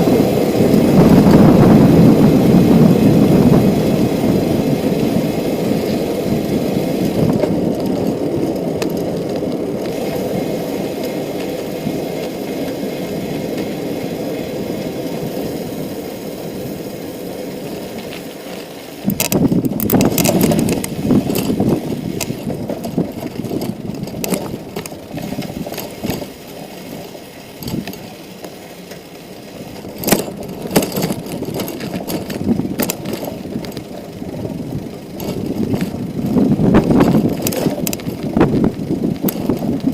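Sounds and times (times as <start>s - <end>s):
bicycle clicks and rattles: 0.0s - 39.9s
bicycle rolling rumble: 0.0s - 39.9s.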